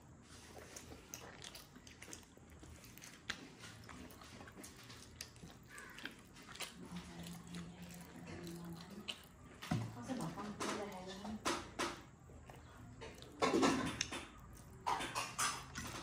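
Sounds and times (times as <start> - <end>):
chewing with wet mouth clicks: 0.3 - 16.0.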